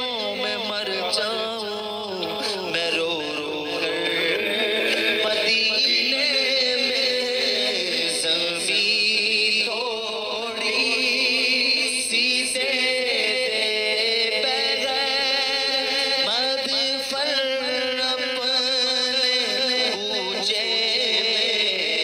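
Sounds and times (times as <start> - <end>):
man singing: 0.0 - 22.0.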